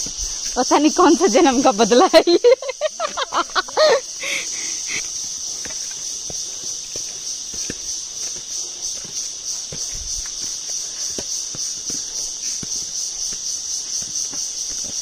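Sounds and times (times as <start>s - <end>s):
footsteps on stone steps: 0.0s - 15.0s
insect chorus: 0.0s - 15.0s.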